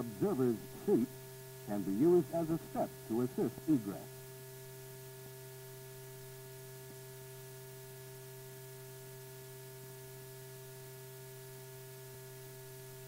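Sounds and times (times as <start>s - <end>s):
film soundtrack electrical hum and hiss: 0.0s - 13.0s.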